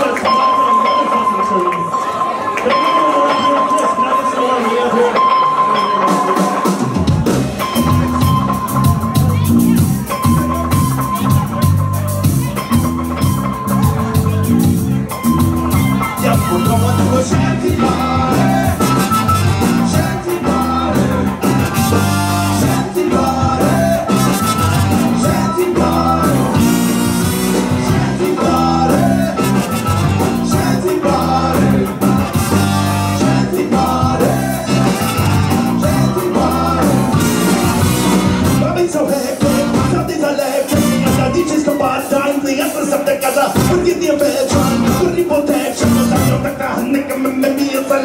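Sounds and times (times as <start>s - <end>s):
ska band playing live: 0.0s - 48.0s
trumpet and saxophone melody: 6.0s - 47.3s.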